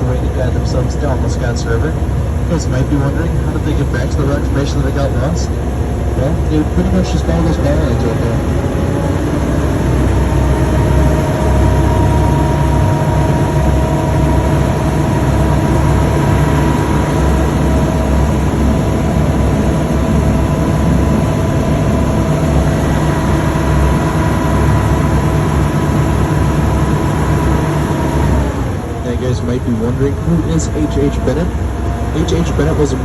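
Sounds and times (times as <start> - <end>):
boat engine drone: 0.0 - 33.0
faint engine whine: 0.0 - 33.0.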